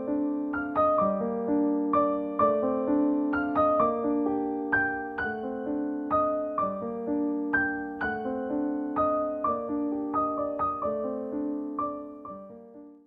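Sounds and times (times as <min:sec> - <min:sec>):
gentle piano notes: 0:00.0 - 0:13.0.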